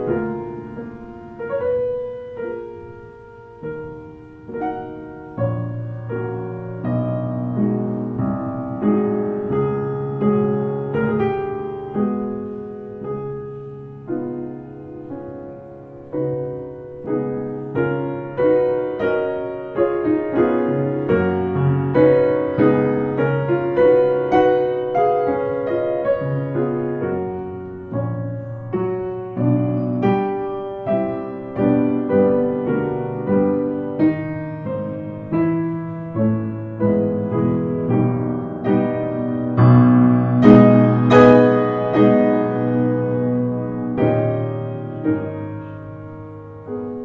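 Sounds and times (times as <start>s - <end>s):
gentle piano music: 0.0s - 47.0s.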